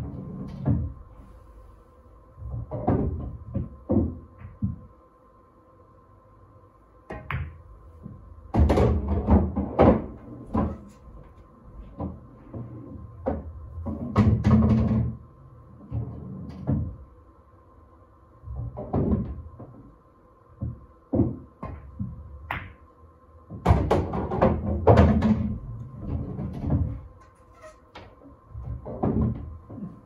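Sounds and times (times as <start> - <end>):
pool balls colliding and rolling: 0.0 - 1.8, 2.4 - 4.9, 7.1 - 17.1, 18.4 - 30.0
faint steady hum: 0.0 - 30.0.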